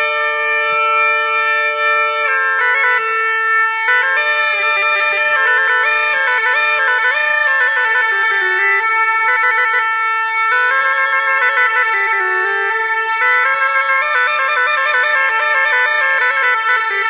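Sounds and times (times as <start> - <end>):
bagpipe chanters playing a tune: 0.0 - 17.0.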